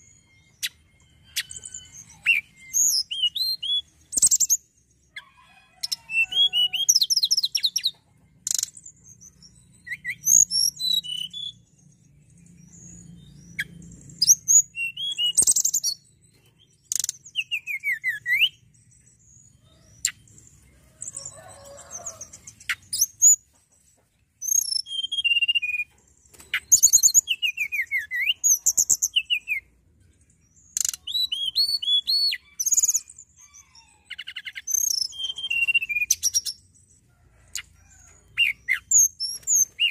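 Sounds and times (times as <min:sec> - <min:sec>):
bird singing whistles and trills: 0:00.0 - 0:04.6, 0:05.8 - 0:20.3, 0:24.4 - 0:29.7, 0:30.4 - 0:36.7, 0:37.9 - 0:39.9.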